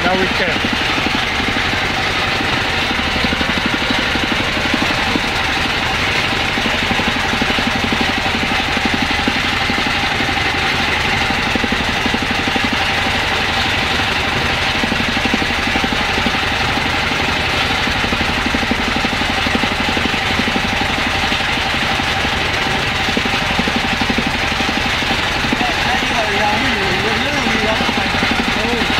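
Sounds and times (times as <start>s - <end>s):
boat engine running: 0.0s - 28.9s.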